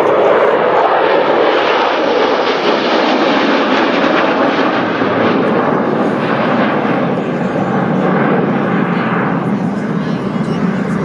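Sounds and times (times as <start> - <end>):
jet aircraft engine roar: 0.0 - 11.0.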